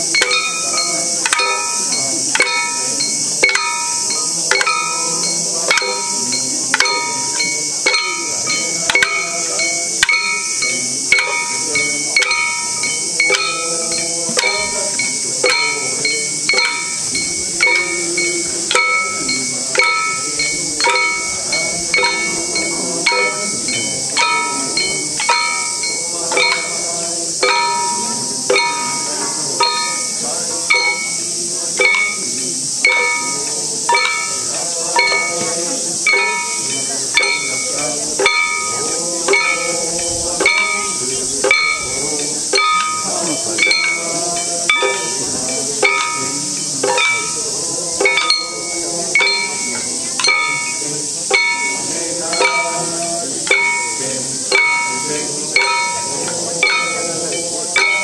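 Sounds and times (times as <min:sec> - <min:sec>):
high-pitched hiss: 0:00.0 - 0:58.0.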